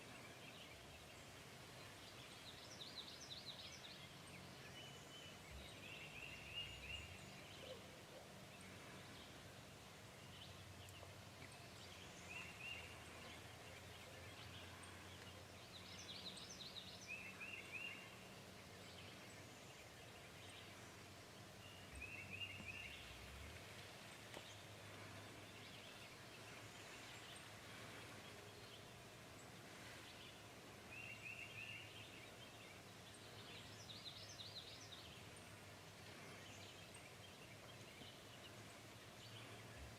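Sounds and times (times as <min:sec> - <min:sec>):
low steady hum: 0:00.0 - 0:39.9
faint bird calls: 0:01.8 - 0:39.9.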